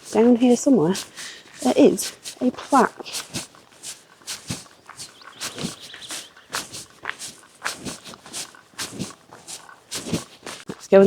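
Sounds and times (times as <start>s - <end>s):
crunching footsteps: 0.0s - 11.0s.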